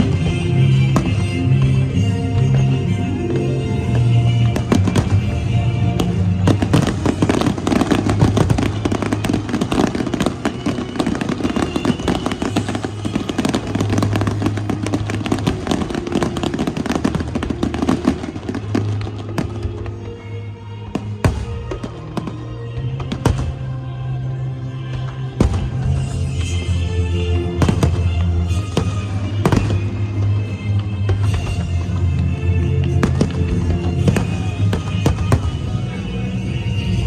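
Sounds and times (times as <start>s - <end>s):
music playing: 0.0s - 37.0s
fireworks crackling bangs: 3.7s - 24.0s, 25.0s - 37.0s.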